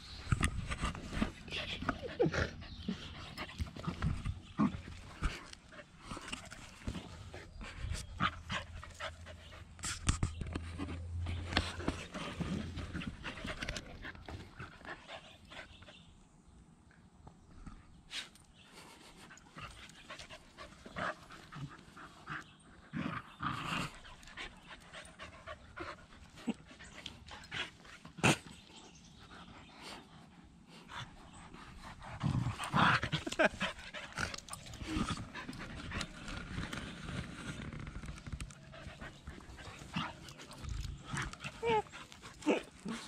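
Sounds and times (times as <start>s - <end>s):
dogs panting and scuffling: 0.0s - 16.1s, 18.1s - 43.0s.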